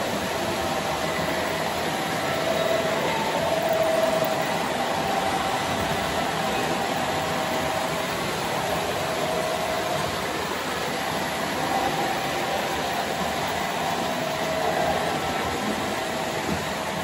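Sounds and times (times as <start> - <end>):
model train wheels rolling on rails: 0.0 - 17.0.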